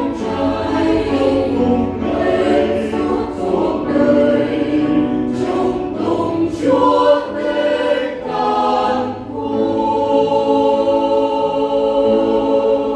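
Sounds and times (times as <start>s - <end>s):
mixed choir singing a hymn: 0.0s - 12.9s
piano accompaniment: 0.0s - 12.9s.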